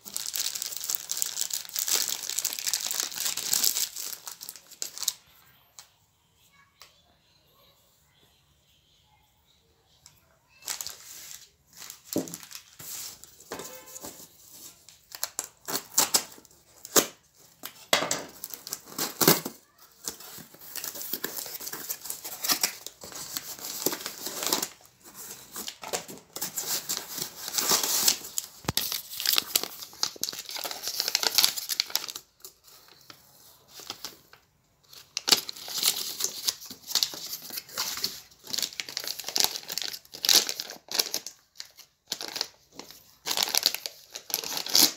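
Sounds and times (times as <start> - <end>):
plastic packaging crinkling: 0.0 - 5.3, 10.5 - 44.9.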